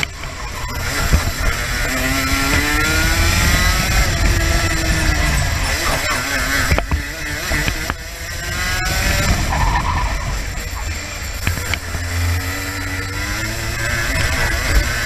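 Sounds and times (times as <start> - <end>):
kart engine racing: 0.0 - 15.0.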